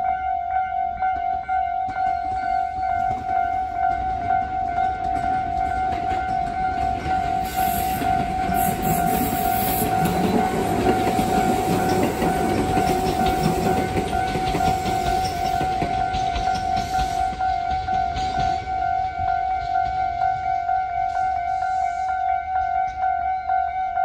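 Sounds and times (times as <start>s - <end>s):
level crossing alarm ringing: 0.0s - 24.0s
wheels clicking over rail joints: 1.2s - 21.6s
train rumbling past: 1.8s - 23.6s.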